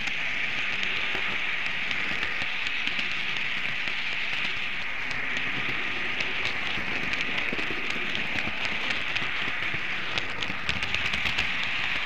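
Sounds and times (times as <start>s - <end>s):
model train rattling on track: 0.0s - 12.0s.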